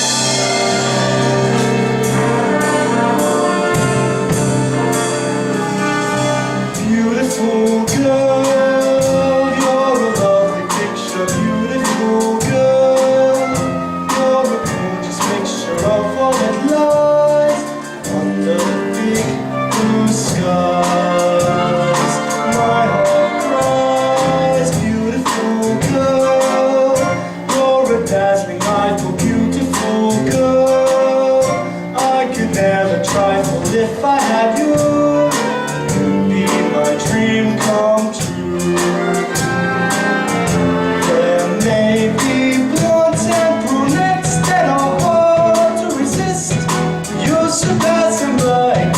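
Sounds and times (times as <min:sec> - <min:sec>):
stage musical music with beat: 0:00.0 - 0:48.9.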